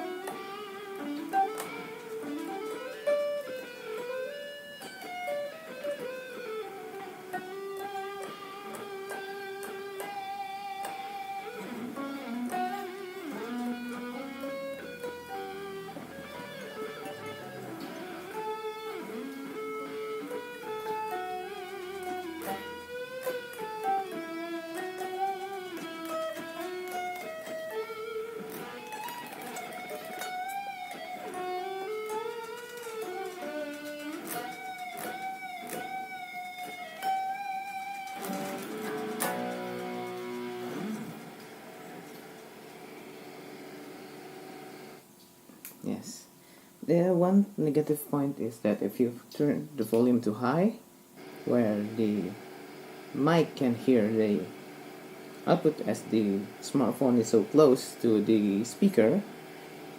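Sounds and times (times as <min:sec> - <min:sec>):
electric guitar single-note lines: 0:00.0 - 0:45.1, 0:49.1 - 0:59.9.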